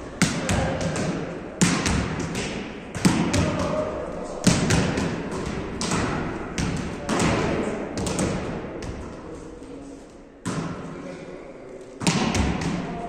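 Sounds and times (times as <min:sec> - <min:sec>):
volleyball thumps echoing in gym: 0:00.0 - 0:13.0.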